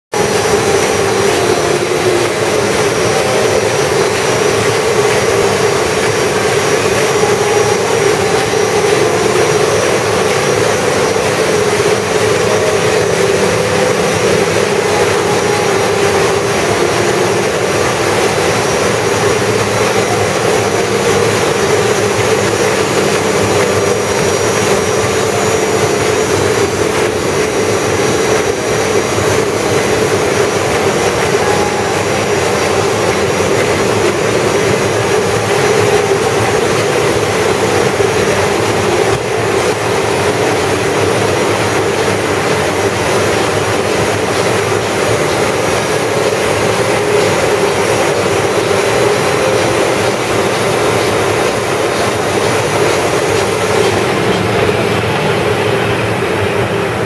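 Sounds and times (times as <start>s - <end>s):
printing press drone and hiss: 0.1s - 57.0s.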